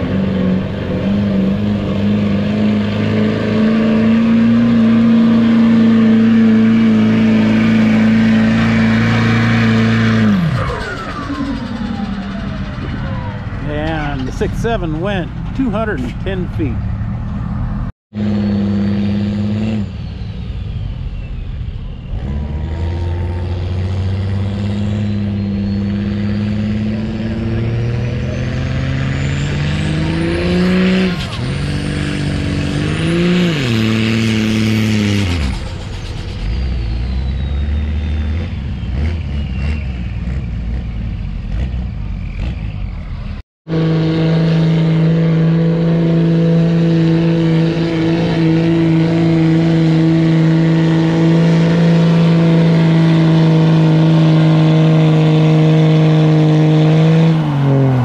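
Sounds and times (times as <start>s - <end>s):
diesel truck engines at full revs: 0.0s - 58.0s
loud steady truck engine: 0.0s - 58.0s.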